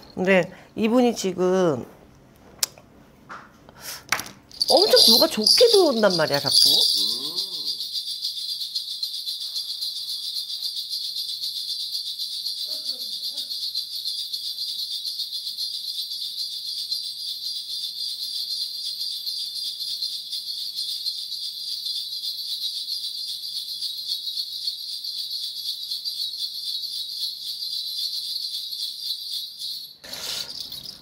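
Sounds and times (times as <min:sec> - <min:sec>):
small bells jingling: 0:00.0 - 0:01.0, 0:04.5 - 0:31.0.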